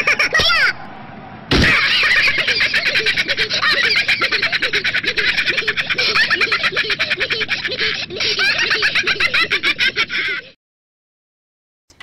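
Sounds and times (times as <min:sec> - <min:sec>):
squeaky cartoon voices giggling: 0:00.0 - 0:00.7, 0:01.6 - 0:10.6.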